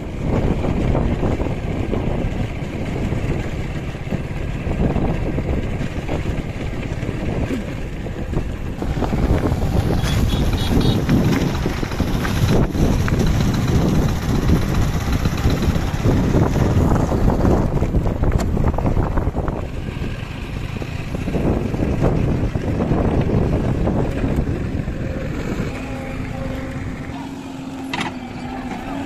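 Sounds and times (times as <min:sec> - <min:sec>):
wind buffeting microphone: 0:00.0 - 0:27.2
small motorcycle engine: 0:00.0 - 0:29.0.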